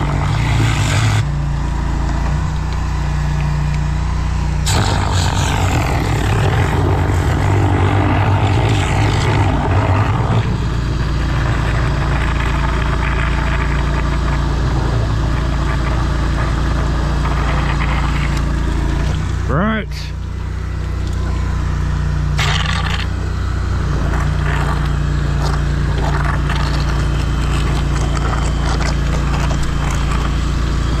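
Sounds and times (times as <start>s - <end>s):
drain jetter engine humming: 0.0s - 31.0s.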